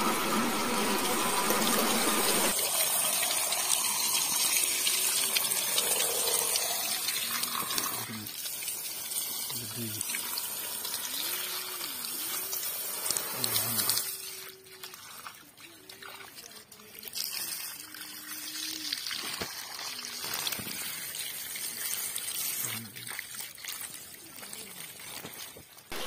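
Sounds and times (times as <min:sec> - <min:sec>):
hose water spraying on plastic: 0:00.0 - 0:26.0
water trickling: 0:00.0 - 0:26.0.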